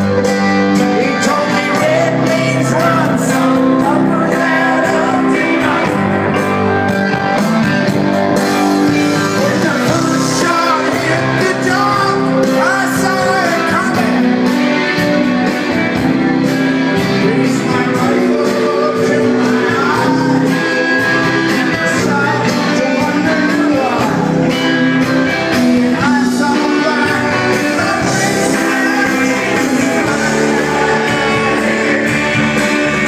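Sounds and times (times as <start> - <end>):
person singing: 0.0 - 6.6, 8.9 - 14.6, 16.8 - 33.0
drums: 0.0 - 33.0
electric guitars: 0.0 - 33.0.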